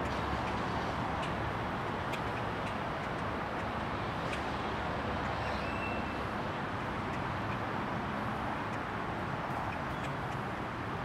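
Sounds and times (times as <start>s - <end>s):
city street traffic hum: 0.0s - 11.0s.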